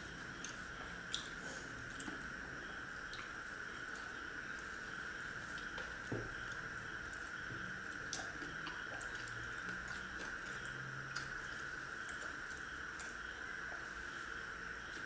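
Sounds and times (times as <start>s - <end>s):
soft chewing: 0.0s - 15.0s
steady high hiss: 0.0s - 15.0s.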